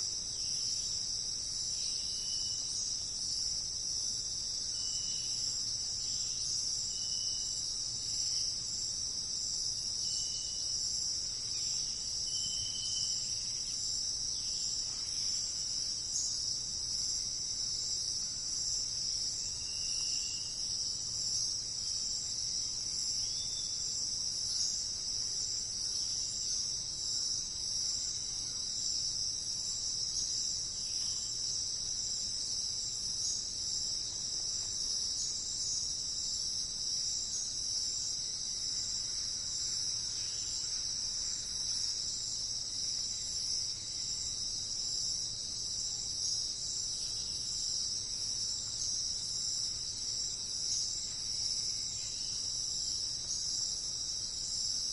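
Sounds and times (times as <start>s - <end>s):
insect chorus trilling: 0.0s - 54.9s.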